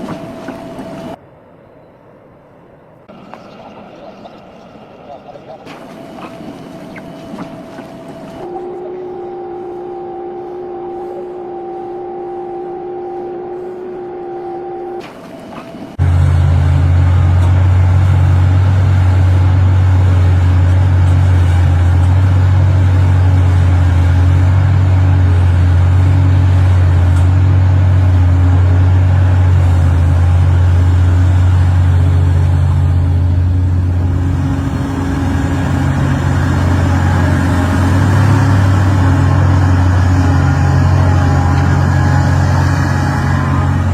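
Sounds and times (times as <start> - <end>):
diesel engine droning: 0.0 - 43.9
two-tone machinery whine: 3.1 - 43.9.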